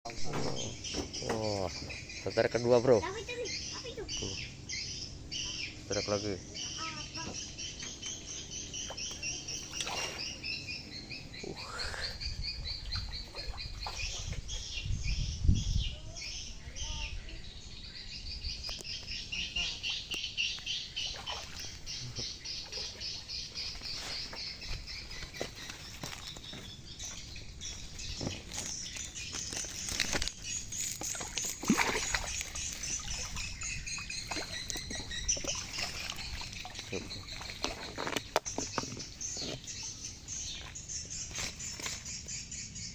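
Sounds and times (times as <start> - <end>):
chorus of pulsing chirps: 0.1 - 42.9.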